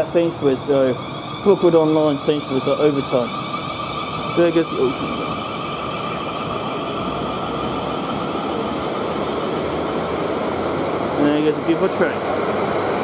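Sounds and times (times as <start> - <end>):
high-pitched train whine: 0.0 - 13.0
train wheels on track: 0.0 - 13.0.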